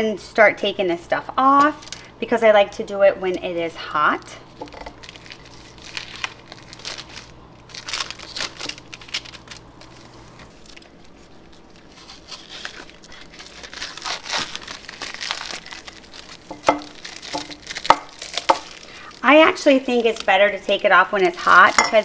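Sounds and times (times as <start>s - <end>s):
plastic and paper crinkling and tearing: 1.5s - 2.1s, 4.1s - 22.0s.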